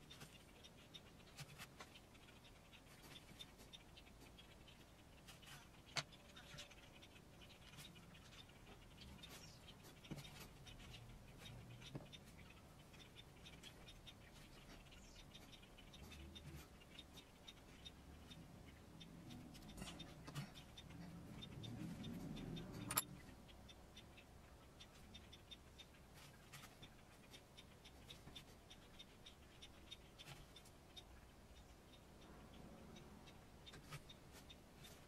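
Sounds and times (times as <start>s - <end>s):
light ticks: 0.0s - 35.0s.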